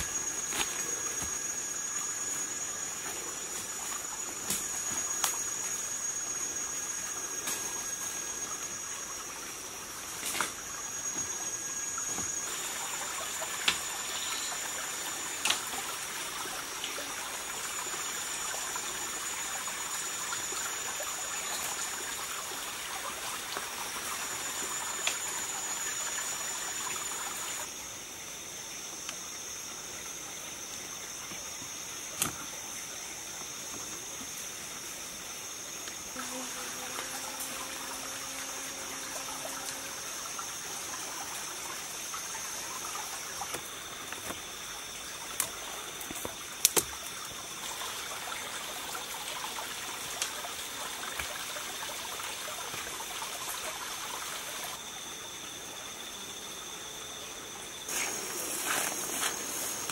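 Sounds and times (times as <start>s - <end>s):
insects droning: 0.0s - 59.9s
steady hiss: 0.0s - 59.9s.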